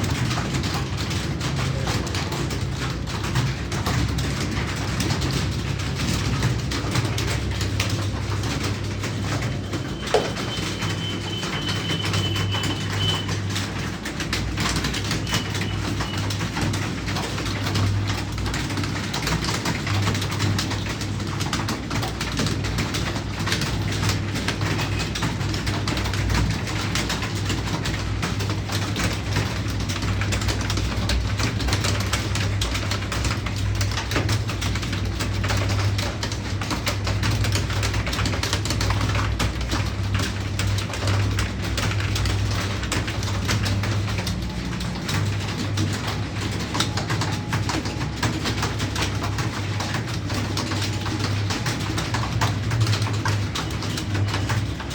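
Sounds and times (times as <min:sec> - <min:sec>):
computer keyboard typing: 0:00.0 - 0:54.9.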